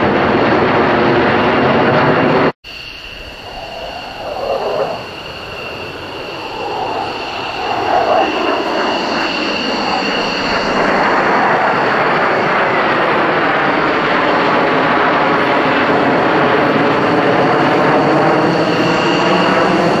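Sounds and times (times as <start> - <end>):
jet fighters passing overhead: 0.0 - 20.0.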